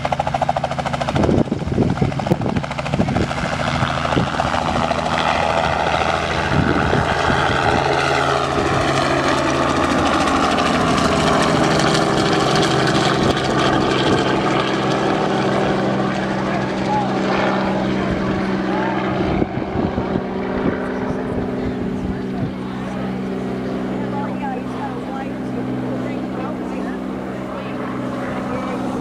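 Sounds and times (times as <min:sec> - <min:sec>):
helicopter rotor and engine drone: 0:00.0 - 0:29.0.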